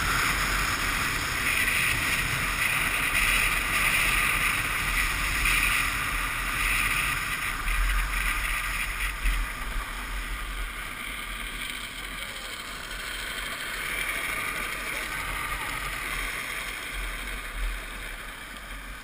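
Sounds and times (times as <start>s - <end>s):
wheels rolling on pavement: 0.0s - 19.0s.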